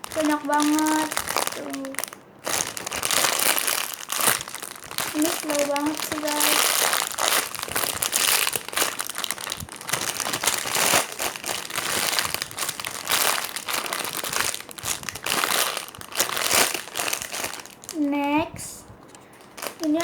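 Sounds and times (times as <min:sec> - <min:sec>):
squishy toy crinkling and crackling: 0:00.0 - 0:18.3, 0:18.9 - 0:20.0.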